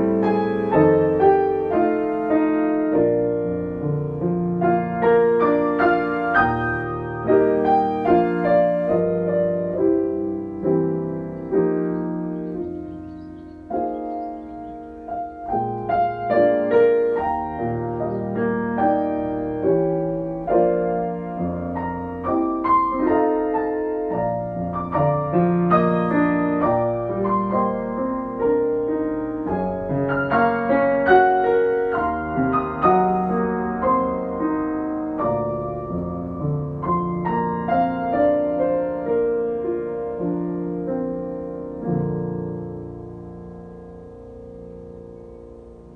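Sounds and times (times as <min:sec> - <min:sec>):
solo piano music: 0:00.0 - 0:45.9.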